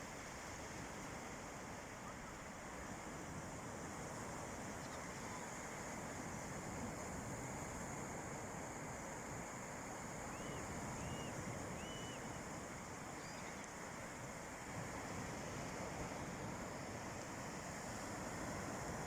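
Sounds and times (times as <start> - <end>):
sea waves on a beach: 0.0 - 19.0.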